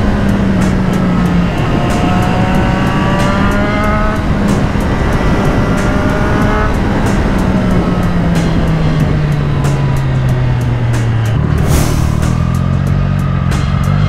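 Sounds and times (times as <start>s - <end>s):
wind rushing over microphone: 0.0s - 13.1s
motorcycle engine revving: 0.0s - 14.0s.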